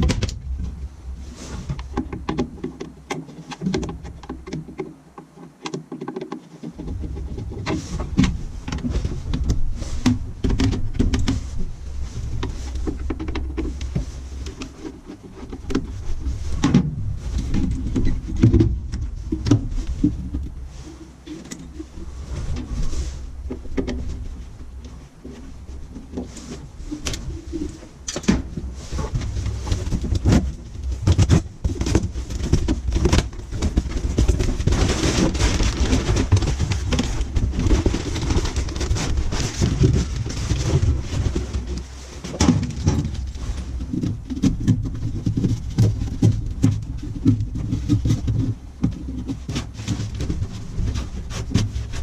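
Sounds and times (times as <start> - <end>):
steady low hum: 0.0 - 3.1, 6.8 - 52.0.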